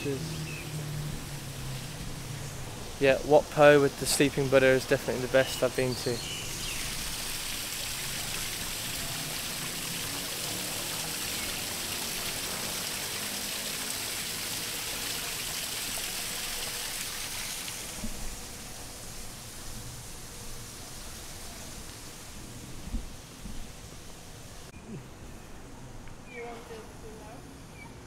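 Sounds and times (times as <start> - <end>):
water splashing down small waterfall: 0.0 - 24.4.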